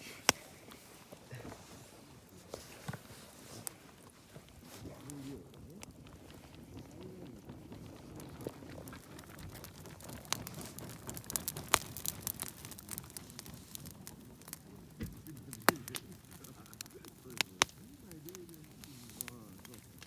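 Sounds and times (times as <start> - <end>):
campfire crackling: 0.0 - 20.0
sharp pops of burning wood: 0.2 - 20.0.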